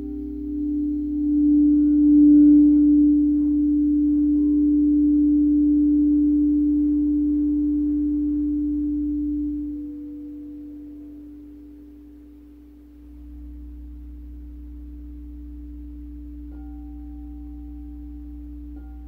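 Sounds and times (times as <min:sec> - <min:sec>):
higher singing bowl tone: 0:00.0 - 0:19.0
low singing bowl tone: 0:00.0 - 0:19.0.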